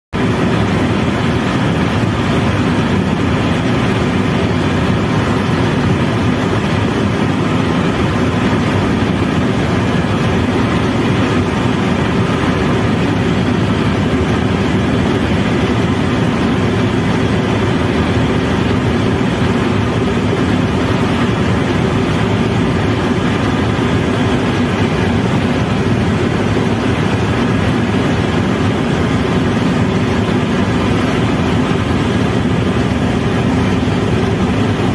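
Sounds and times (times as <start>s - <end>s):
helicopter cabin engine and rotor din: 0.1s - 34.9s.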